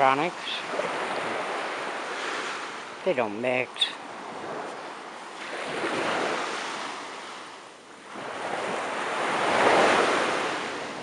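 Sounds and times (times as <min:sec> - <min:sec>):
ocean waves on beach: 0:00.0 - 0:11.0.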